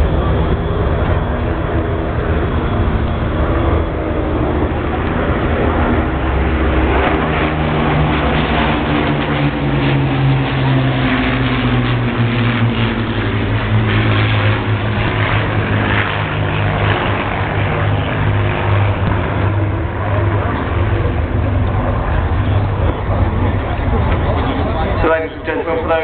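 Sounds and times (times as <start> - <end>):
piston aircraft engines droning: 0.0 - 26.0.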